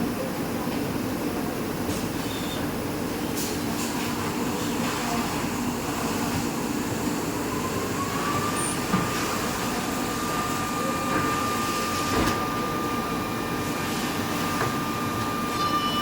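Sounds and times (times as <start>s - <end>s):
machine hum and whine: 0.0s - 16.0s.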